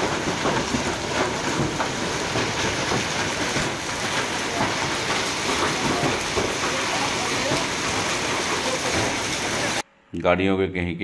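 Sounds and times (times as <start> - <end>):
heavy rain and hail: 0.0 - 9.8.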